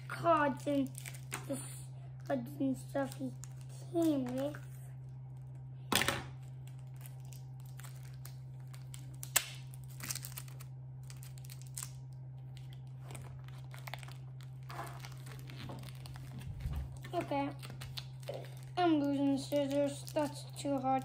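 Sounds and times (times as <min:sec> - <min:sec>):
low hum: 0:00.0 - 0:21.0
plastic packaging crinkling: 0:00.6 - 0:04.7, 0:06.4 - 0:21.0.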